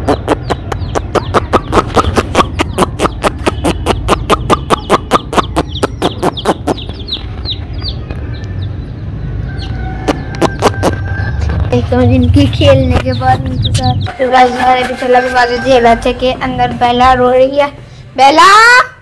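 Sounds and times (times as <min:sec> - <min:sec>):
chicks peeping: 0:00.0 - 0:16.2.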